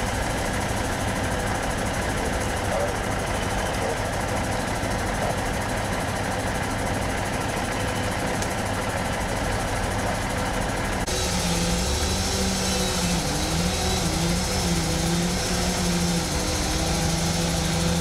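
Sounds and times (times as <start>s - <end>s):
large engine idling: 0.0s - 18.0s.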